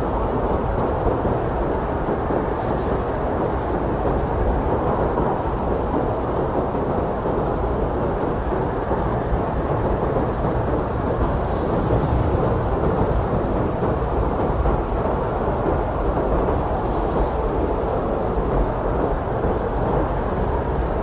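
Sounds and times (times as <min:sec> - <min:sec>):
blizzard wind rushing: 0:00.0 - 0:21.0.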